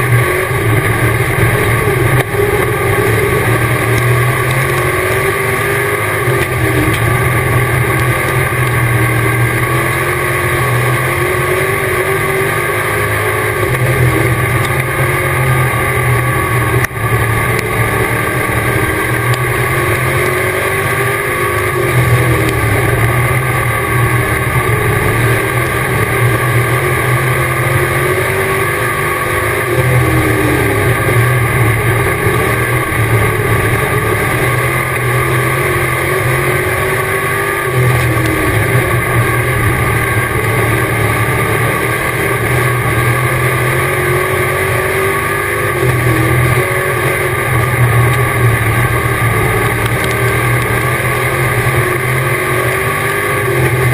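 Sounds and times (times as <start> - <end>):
race car engine: 0.0 - 53.9.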